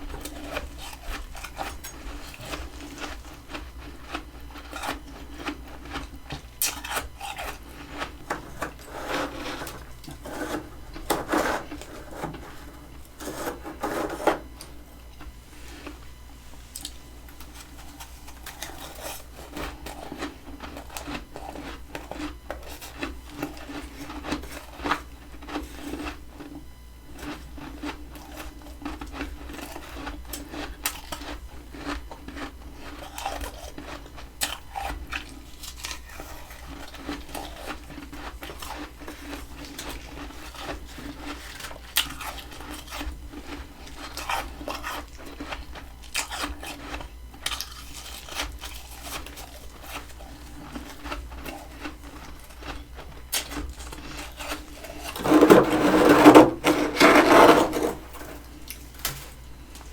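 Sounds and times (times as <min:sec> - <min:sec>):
crunching and chewing frost: 0:00.0 - 0:59.9.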